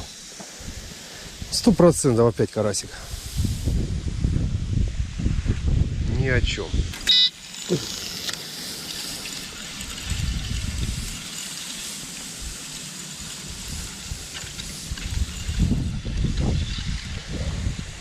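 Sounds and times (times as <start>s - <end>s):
wind gusting against microphone: 0.0s - 7.0s, 7.7s - 18.0s.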